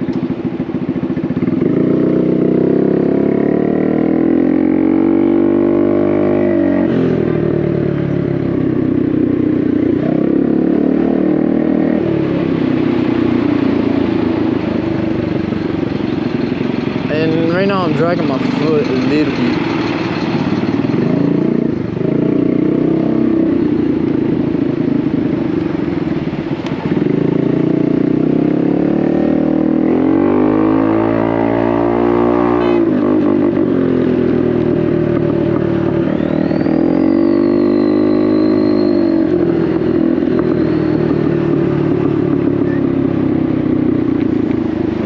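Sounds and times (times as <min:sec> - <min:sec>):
scooter engine revving: 0:00.0 - 0:45.0.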